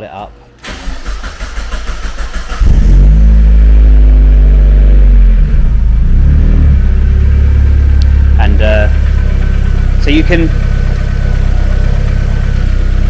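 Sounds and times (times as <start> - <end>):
car engine cranking: 0.6 - 13.0
car engine idling: 0.6 - 13.0.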